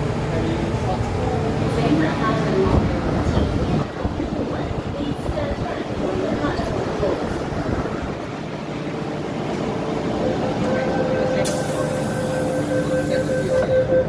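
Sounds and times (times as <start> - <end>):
train rumbling to a stop: 0.0 - 14.0.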